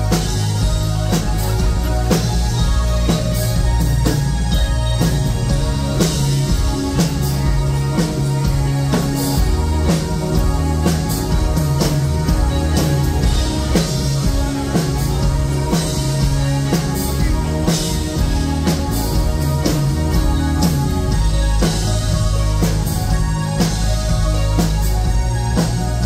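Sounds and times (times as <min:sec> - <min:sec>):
drum kit beat: 0:00.0 - 0:26.0
electric guitar: 0:00.0 - 0:26.0
synthesizer keyboard: 0:00.0 - 0:26.0.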